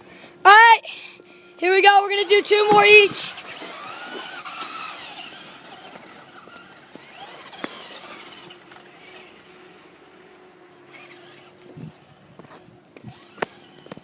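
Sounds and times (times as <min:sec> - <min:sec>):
rc truck electric motor whining: 0:01.6 - 0:14.0.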